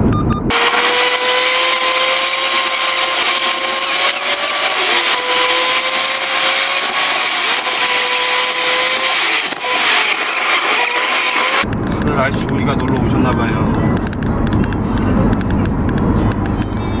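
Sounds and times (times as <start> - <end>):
sped-up car engine whine: 0.0 - 16.8.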